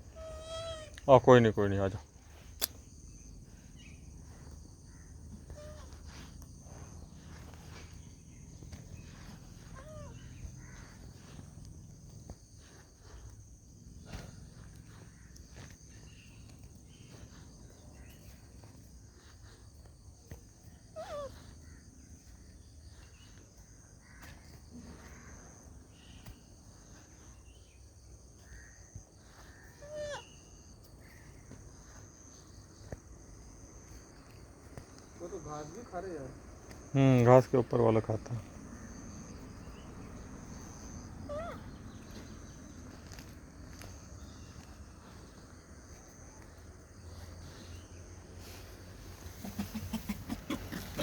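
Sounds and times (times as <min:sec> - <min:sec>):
high insect chirring: 0:00.0 - 0:48.3.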